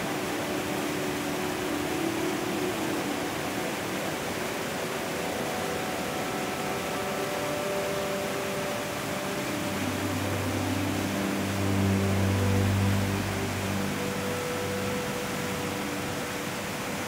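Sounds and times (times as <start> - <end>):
low steady tones: 0.0 - 17.0
stream rushing over boulders: 0.0 - 17.0.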